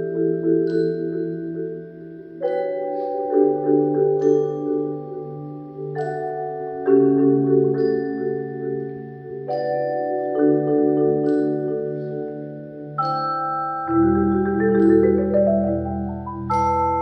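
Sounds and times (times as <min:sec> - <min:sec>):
vibraphone and marimba chords: 0:00.0 - 0:17.0.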